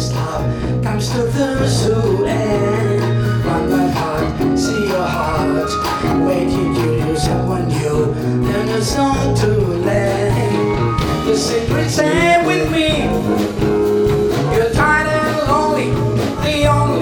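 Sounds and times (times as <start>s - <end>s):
live band playing smooth jazz: 0.0s - 17.0s
sustained bass notes: 0.0s - 17.0s.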